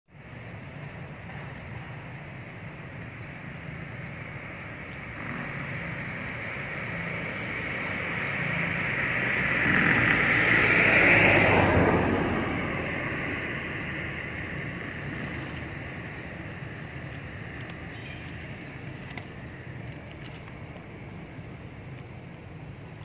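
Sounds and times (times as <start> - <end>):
vehicle passing by: 0.5 - 21.8.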